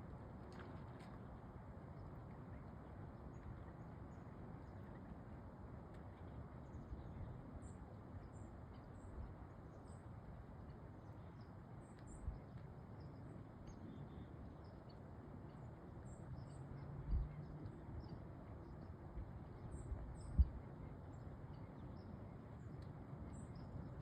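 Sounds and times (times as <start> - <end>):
low outdoor rush: 0.0 - 24.0.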